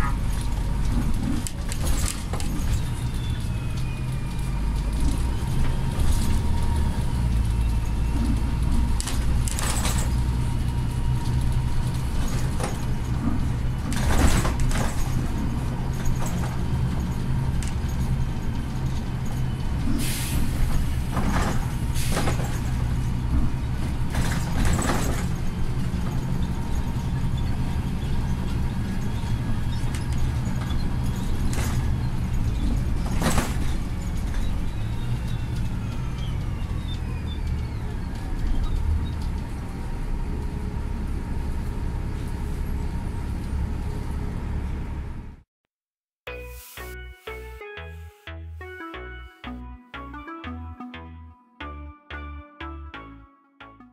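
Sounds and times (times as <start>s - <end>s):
knocks and rattles of bus body: 0.0s - 44.0s
bus engine drone: 0.0s - 45.5s.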